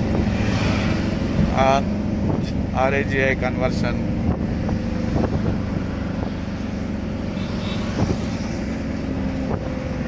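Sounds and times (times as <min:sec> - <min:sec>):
auto-rickshaw engine running: 0:00.0 - 0:10.0
road noise: 0:00.0 - 0:10.0.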